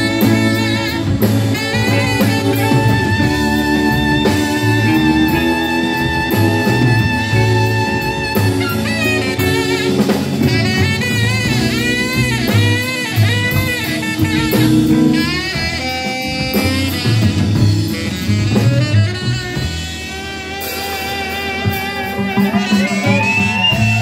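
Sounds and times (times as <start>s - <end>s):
rockabilly band playing: 0.0s - 24.0s
saxophone solo: 0.0s - 24.0s.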